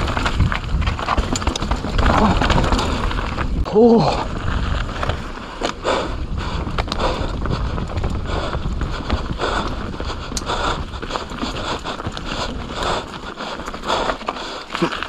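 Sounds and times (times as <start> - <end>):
wind rushing over microphone: 0.0 - 13.2
bike rattling and clicking: 0.0 - 15.0
tyres running over wet dirt: 0.0 - 15.0.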